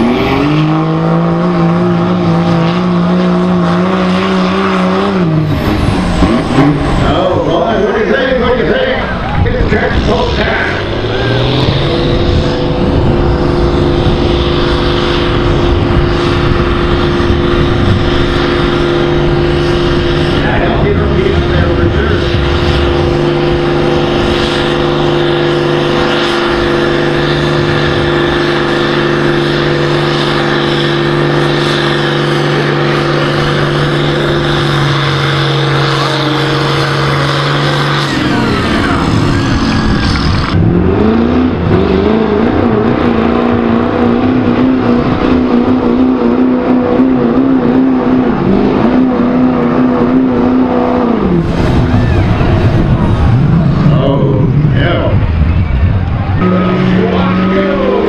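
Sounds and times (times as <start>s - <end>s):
pickup truck diesel engine straining: 0.0s - 58.0s
tractor diesel engine running: 0.0s - 58.0s.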